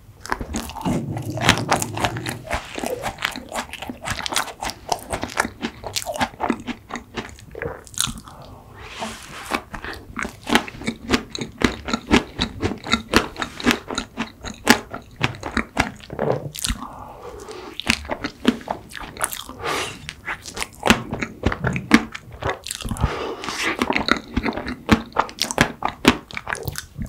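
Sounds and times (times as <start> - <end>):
crunchy biting and chewing: 0.2 - 27.0.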